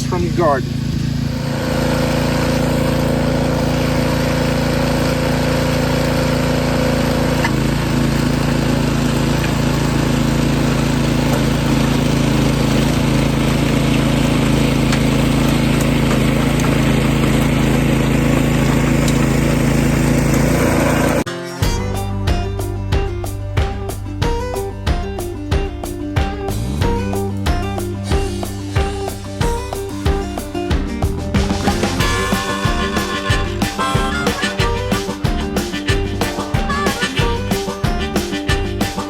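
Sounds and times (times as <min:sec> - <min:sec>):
small gasoline engine running: 0:00.0 - 0:21.3, 0:28.0 - 0:39.0.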